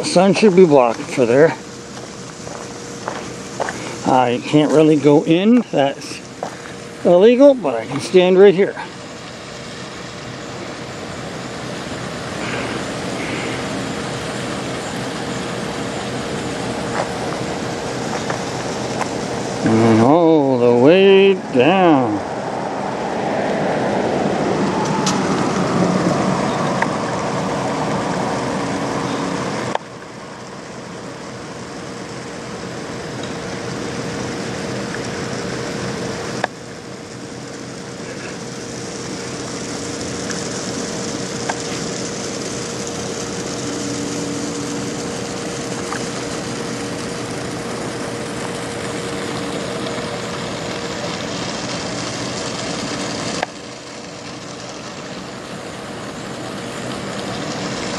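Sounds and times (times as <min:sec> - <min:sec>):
machinery hum: 0:00.0 - 0:57.9.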